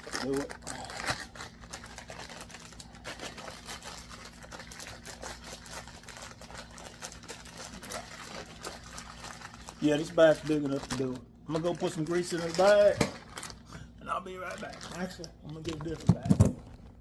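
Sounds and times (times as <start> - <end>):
plastic bag rustling: 0.0 - 13.7, 14.3 - 16.9.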